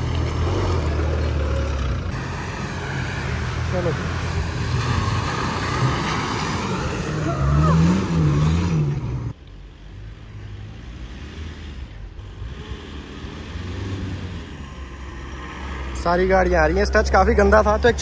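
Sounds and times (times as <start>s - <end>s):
engine running hard: 0.0s - 18.0s.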